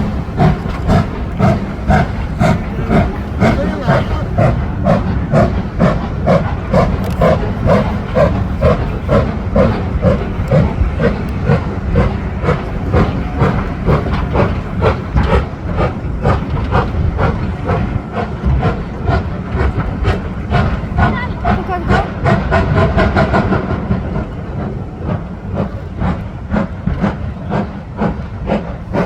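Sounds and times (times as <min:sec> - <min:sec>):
steam hissing: 0:00.0 - 0:29.0
steam locomotive exhaust beats: 0:00.0 - 0:29.0.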